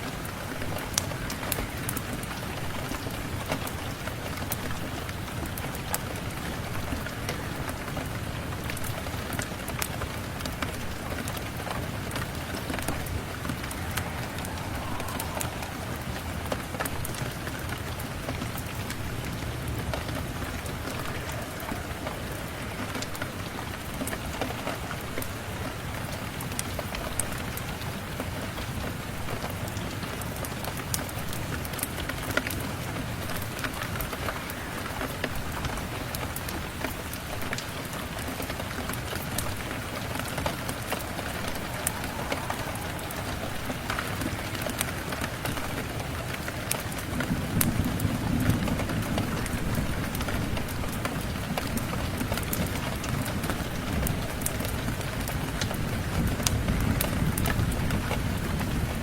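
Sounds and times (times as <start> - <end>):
steady rain hiss: 0.0 - 59.0
wood fire crackling: 0.2 - 27.3, 35.4 - 57.7.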